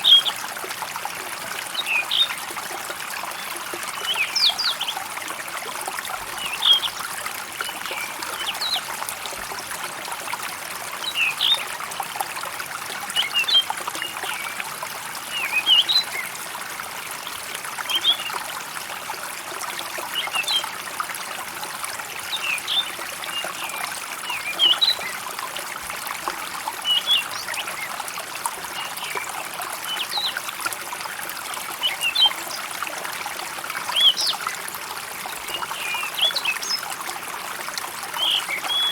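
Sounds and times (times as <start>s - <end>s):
water trickling in stream: 0.0s - 38.9s.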